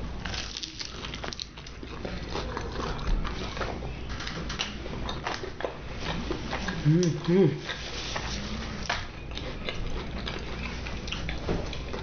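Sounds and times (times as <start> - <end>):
chewing with mouth clicks: 0.2 - 12.0.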